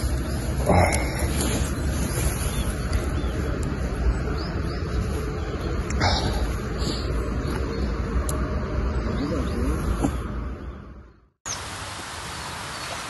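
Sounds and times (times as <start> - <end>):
wind rumbling on microphone: 0.0 - 11.0
bird chirp: 0.0 - 11.7
steady outdoor hiss: 0.0 - 13.0.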